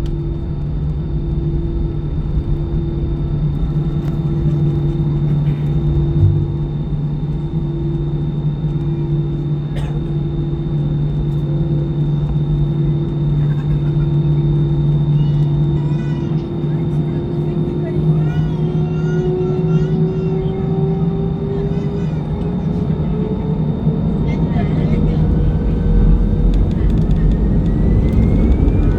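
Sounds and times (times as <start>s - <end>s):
aircraft engine drone in cabin: 0.0s - 28.9s.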